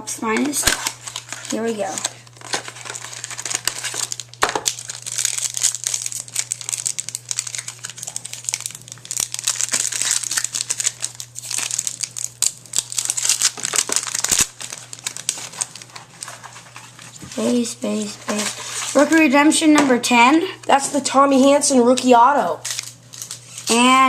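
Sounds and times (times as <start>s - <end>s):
packaging crinkling and tearing: 0.3s - 19.3s, 21.9s - 24.0s.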